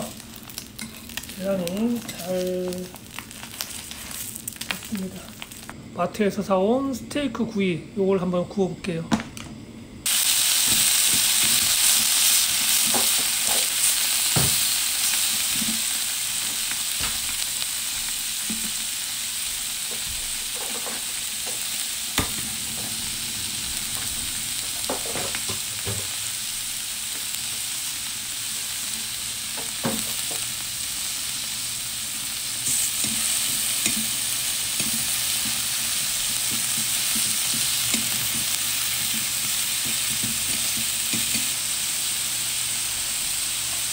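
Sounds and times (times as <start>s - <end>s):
meat sizzling on griddle pan: 0.0s - 5.7s, 10.0s - 43.9s.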